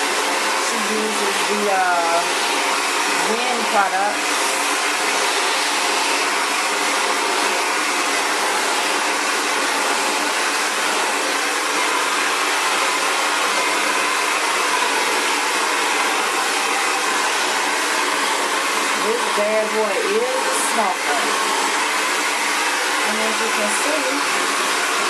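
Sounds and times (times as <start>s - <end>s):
hair dryer blowing air: 0.0s - 25.0s.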